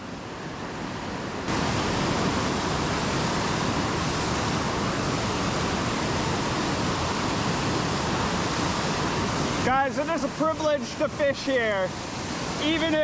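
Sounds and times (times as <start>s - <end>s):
creek water rushing over rocks: 1.2s - 13.0s.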